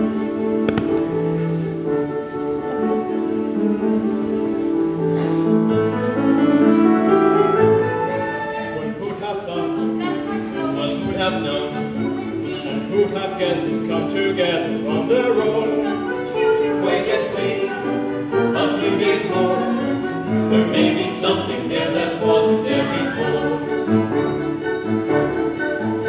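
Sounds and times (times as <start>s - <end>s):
musical theatre song: 0.0s - 26.0s.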